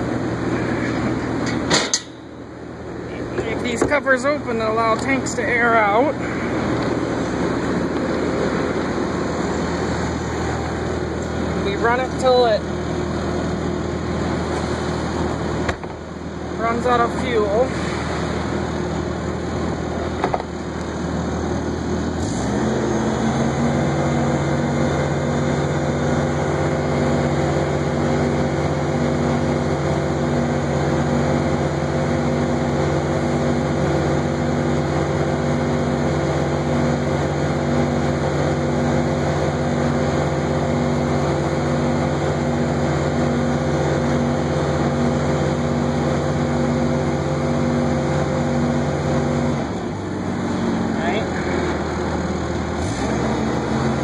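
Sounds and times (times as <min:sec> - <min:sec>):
engine running steadily: 0:00.0 - 0:54.0
pulsing pitched hum: 0:00.0 - 0:54.0.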